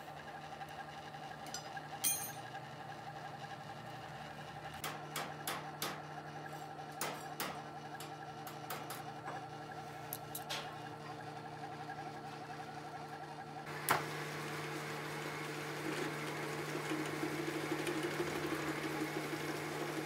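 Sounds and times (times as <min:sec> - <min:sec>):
workshop machinery hum: 0:00.0 - 0:20.0.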